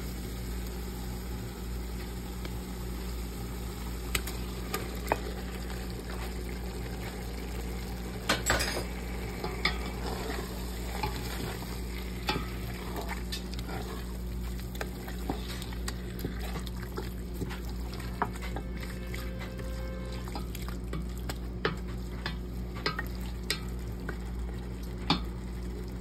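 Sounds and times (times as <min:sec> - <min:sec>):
meat sizzling: 0:00.0 - 0:26.0
steady low hum: 0:00.0 - 0:26.0.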